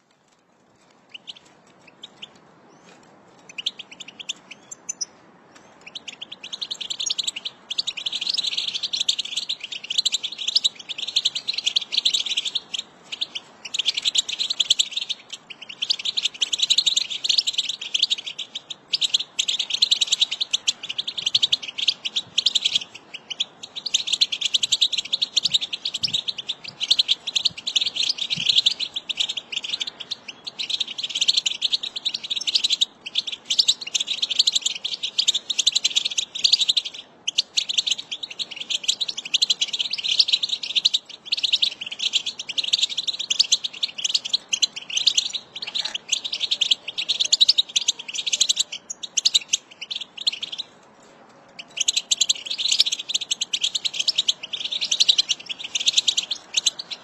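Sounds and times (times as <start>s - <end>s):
bird twittering chirps: 3.5s - 50.8s, 51.6s - 57.0s.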